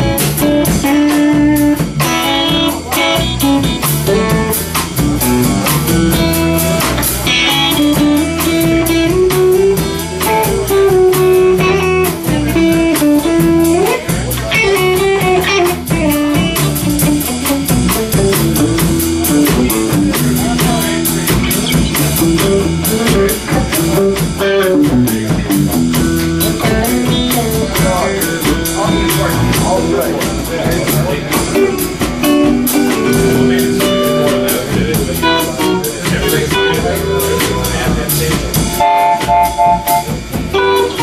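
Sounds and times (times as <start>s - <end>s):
drum kit with cymbal beat: 0.0s - 41.0s
electric bass: 0.0s - 41.0s
electric guitar: 0.0s - 41.0s.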